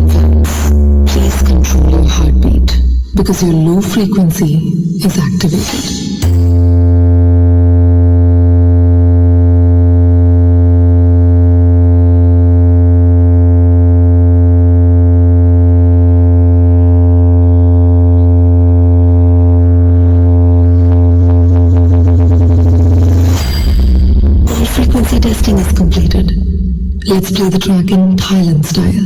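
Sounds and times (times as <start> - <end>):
low bass test tone: 0.0 - 3.8, 4.5 - 27.9.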